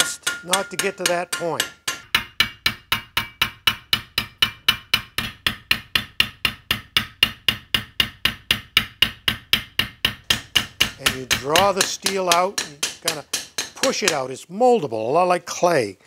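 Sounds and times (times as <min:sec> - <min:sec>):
hammer tapping steel on anvil: 0:00.0 - 0:14.3.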